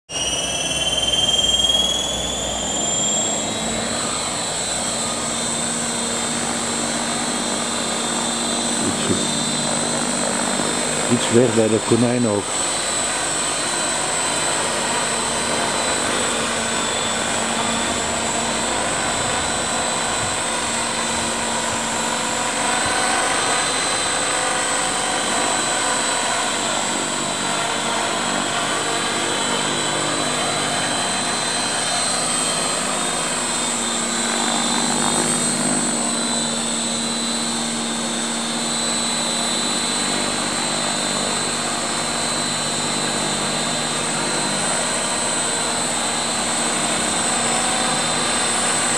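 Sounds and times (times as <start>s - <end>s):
model helicopter motor whine: 0.1s - 48.9s.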